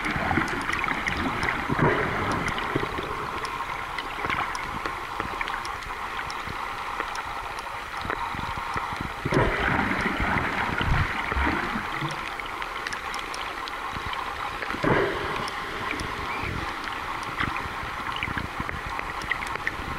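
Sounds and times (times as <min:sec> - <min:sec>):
gurgling water rushes: 0:00.0 - 0:19.9
underwater rush of water: 0:00.0 - 0:19.9
faint clicks: 0:00.4 - 0:10.1, 0:11.6 - 0:19.8.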